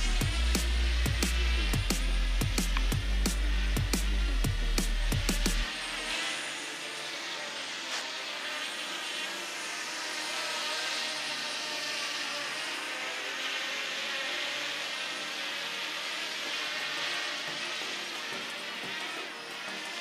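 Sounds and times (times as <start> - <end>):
drone propellers whirring: 0.0 - 20.0.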